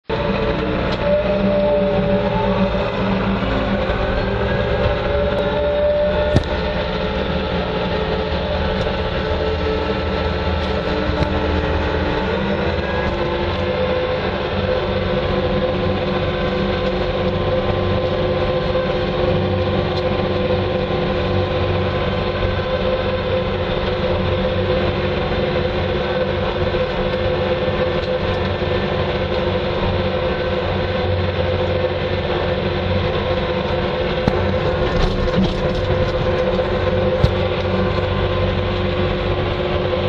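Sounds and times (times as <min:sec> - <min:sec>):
loader engine droning: 0:00.0 - 0:40.0
steady hum: 0:00.1 - 0:40.0.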